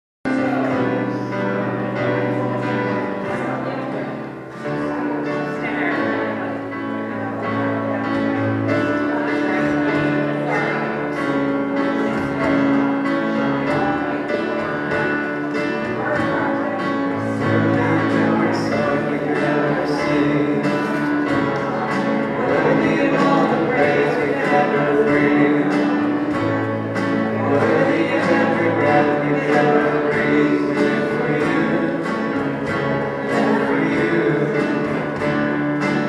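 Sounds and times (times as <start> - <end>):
acoustic guitar: 0.2 - 36.0
keyboard chords: 0.2 - 36.0.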